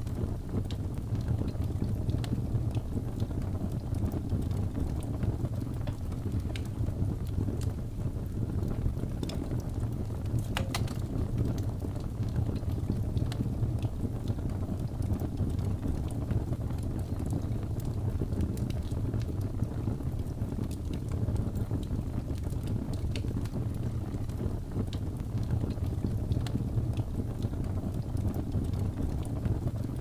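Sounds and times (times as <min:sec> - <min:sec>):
fire rumbling: 0:00.0 - 0:30.0
wood fire crackles and pops: 0:00.0 - 0:30.0.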